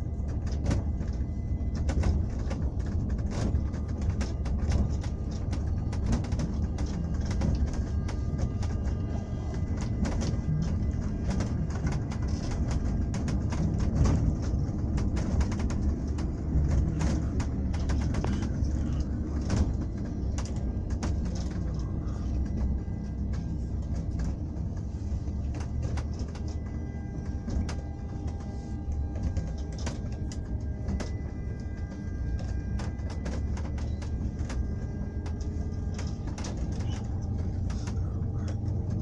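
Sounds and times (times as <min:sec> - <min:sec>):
rattles and clicks: 0:00.0 - 0:39.0
vehicle rumbling while moving: 0:00.0 - 0:39.0.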